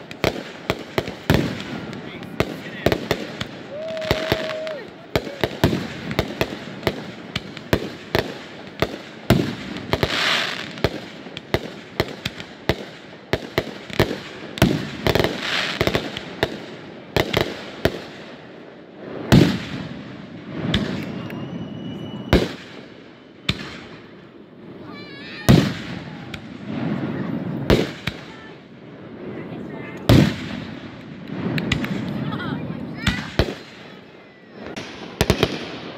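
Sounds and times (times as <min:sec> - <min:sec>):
fireworks bangs and pops: 0:00.0 - 0:35.9
fireworks hissing crackle: 0:00.0 - 0:35.9.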